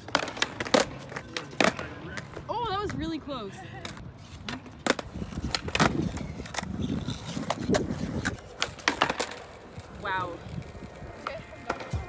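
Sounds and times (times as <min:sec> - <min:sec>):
skateboard deck clacking on pavement: 0:00.0 - 0:03.0, 0:03.8 - 0:12.0
skateboard wheels rolling on asphalt: 0:00.0 - 0:12.0.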